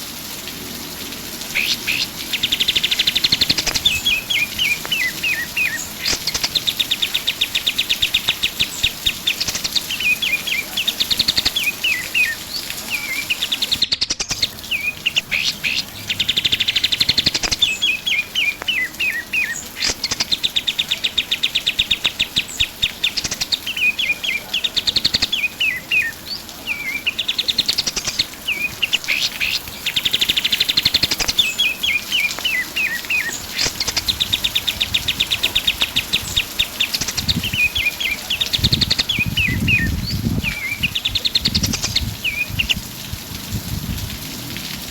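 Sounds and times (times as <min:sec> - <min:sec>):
songbird singing: 0:01.3 - 0:44.0.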